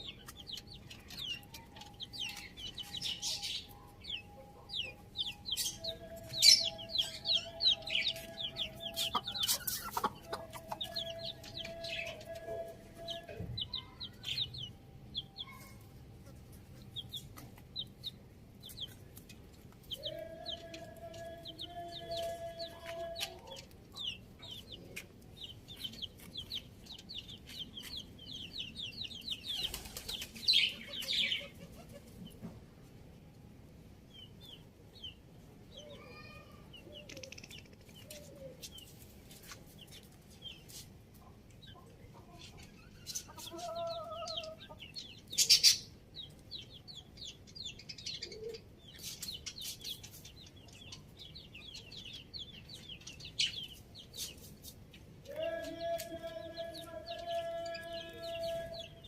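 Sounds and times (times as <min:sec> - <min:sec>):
chickens clucking: 0:00.0 - 0:33.0, 0:36.7 - 0:59.0.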